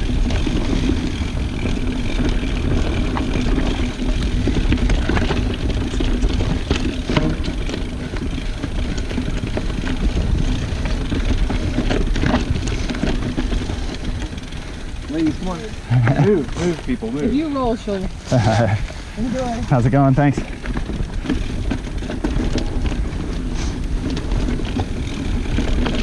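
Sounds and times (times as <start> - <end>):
bike rattles and clacks: 0.0 - 26.0
bike tyre rumble over rock: 0.0 - 26.0.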